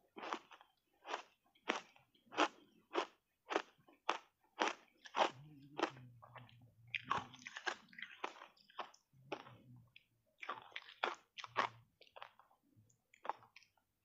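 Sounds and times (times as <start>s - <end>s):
ice being chewed crunching: 0.1s - 12.5s, 13.1s - 13.8s.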